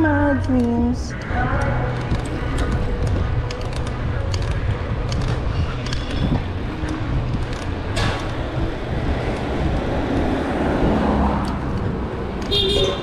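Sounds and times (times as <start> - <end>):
rumbling road and traffic noise: 0.0 - 13.0.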